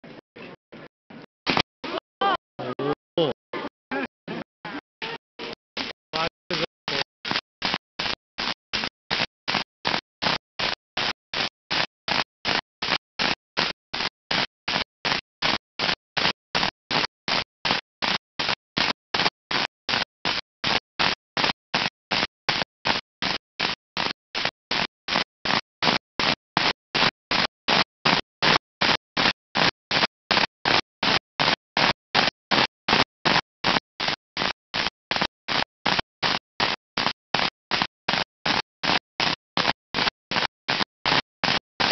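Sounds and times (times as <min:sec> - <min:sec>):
stuttering festival sound: 0:00.0 - 0:41.9.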